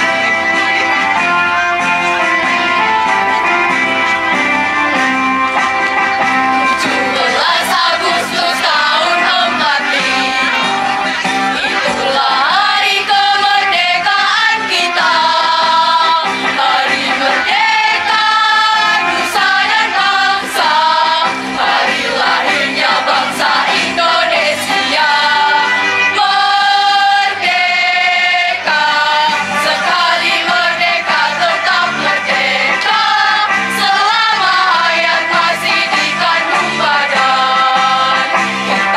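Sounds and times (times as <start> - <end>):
girls' choir singing: 6.7 - 38.9.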